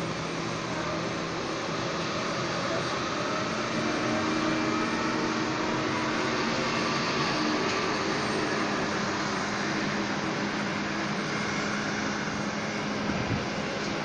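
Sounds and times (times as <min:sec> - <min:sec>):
jet engines rushing hiss: 0:00.0 - 0:14.0.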